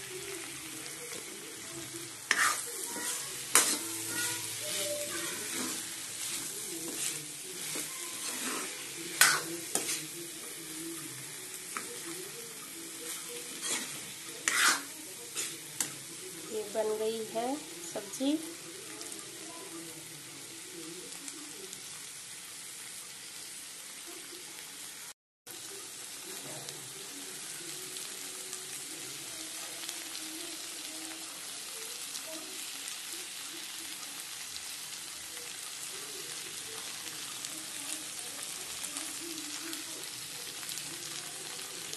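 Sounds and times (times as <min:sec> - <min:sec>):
vegetables sizzling and crackling: 0:00.0 - 0:41.9.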